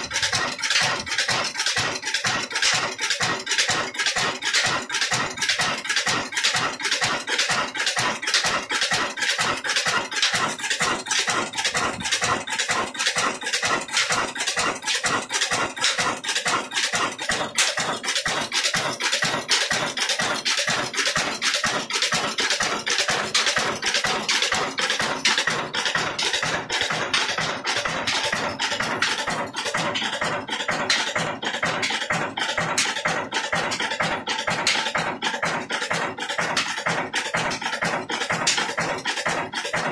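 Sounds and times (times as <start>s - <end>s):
diesel engine metallic clatter: 0.0s - 39.9s.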